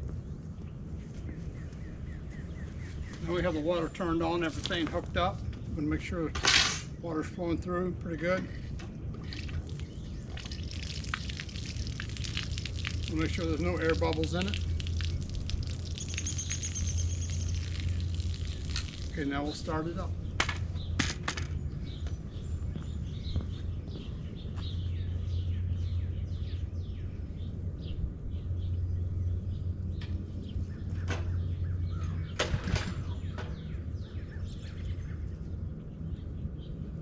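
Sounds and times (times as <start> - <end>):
birds chirping: 0.0 - 37.0
steady low hum: 0.0 - 37.0.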